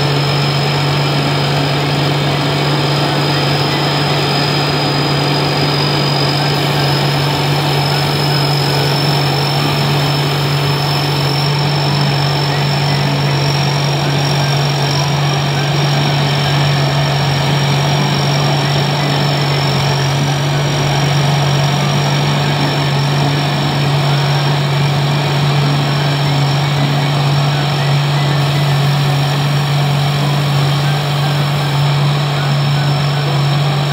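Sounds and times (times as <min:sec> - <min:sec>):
combine harvester engine running: 0:00.0 - 0:33.9
thin high whine: 0:00.0 - 0:33.9.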